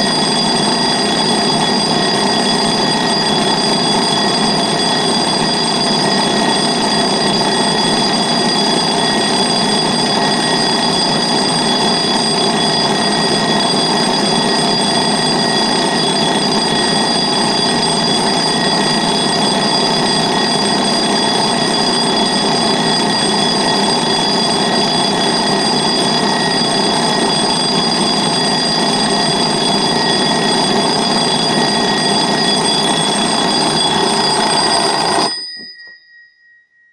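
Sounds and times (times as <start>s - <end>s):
alarm clock bell ringing: 0.0s - 36.9s.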